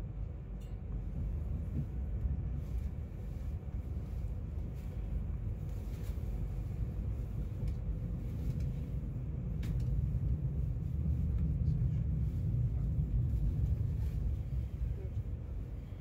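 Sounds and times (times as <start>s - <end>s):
electric train rumbling on track: 0.0s - 16.0s.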